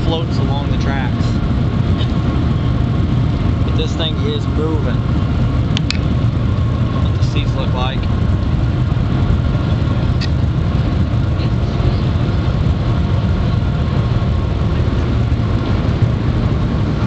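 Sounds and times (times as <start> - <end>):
low rumble inside train cabin: 0.0 - 17.0.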